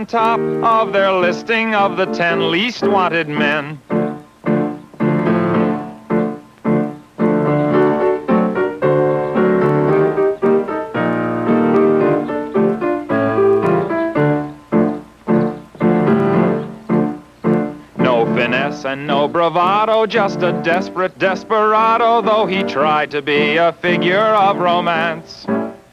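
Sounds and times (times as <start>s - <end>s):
piano chords: 0.0s - 25.9s.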